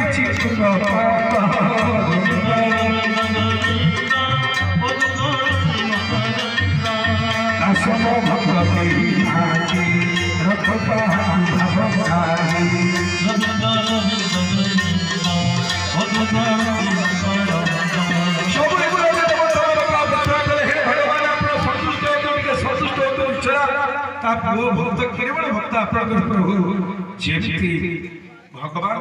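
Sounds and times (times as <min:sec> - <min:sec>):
held melodic tones: 0:00.0 - 0:25.2.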